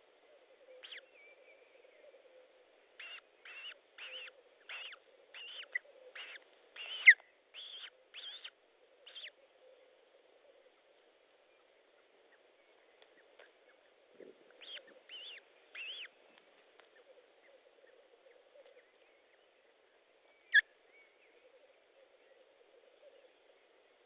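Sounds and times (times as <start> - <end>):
bird calls: 0.0 - 24.0.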